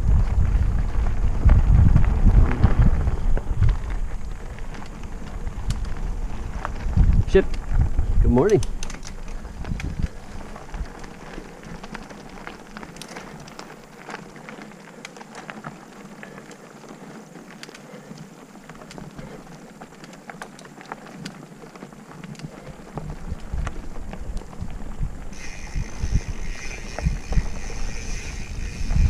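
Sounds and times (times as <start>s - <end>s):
bike tyres crunching on gravel: 0.0s - 29.0s
stones and twigs ticking: 0.0s - 29.0s.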